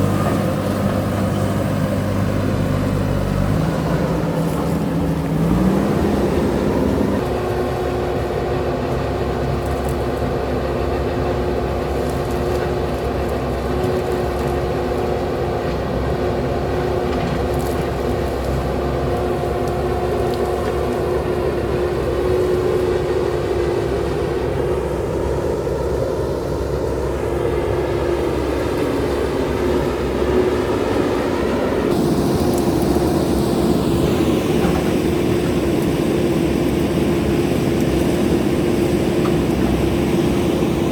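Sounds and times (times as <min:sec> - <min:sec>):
diesel engine revving: 0:00.0 - 0:40.9.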